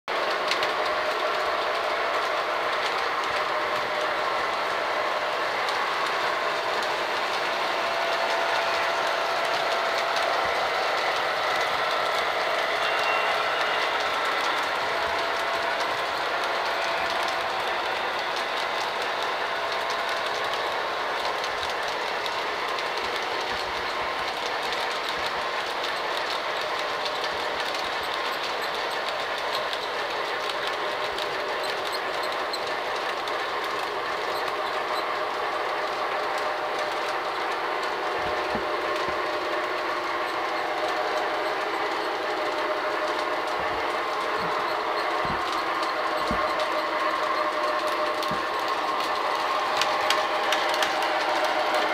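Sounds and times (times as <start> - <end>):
metal wheels rumbling on track: 0.1 - 51.9.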